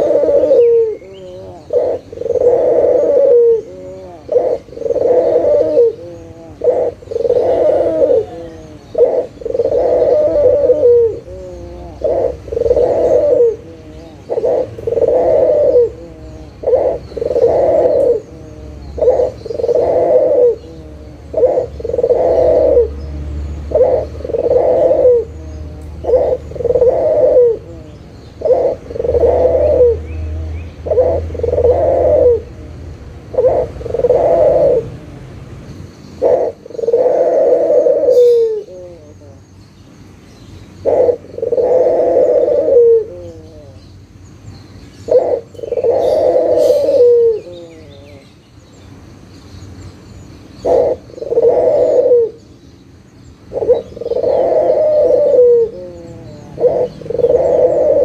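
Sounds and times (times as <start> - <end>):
dove cooing: 0.0 - 35.2, 35.8 - 39.6, 40.7 - 48.4, 50.5 - 58.0.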